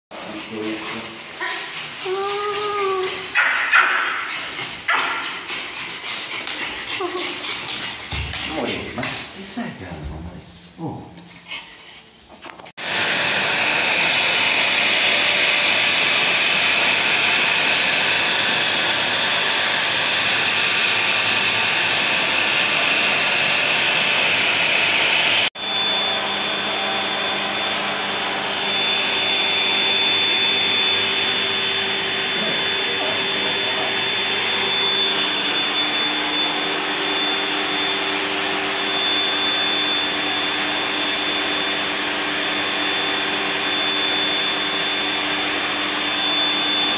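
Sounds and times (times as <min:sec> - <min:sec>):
blower dryer rushing: 0:00.1 - 0:10.2, 0:12.8 - 0:46.9.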